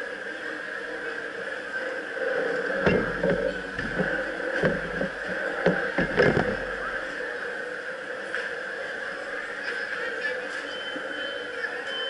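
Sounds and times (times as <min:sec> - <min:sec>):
food court hum: 0:00.0 - 0:12.0.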